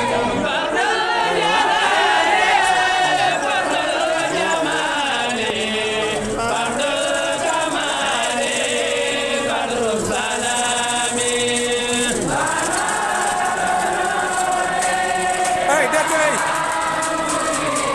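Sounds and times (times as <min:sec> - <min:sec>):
group chanting: 0:00.0 - 0:17.9.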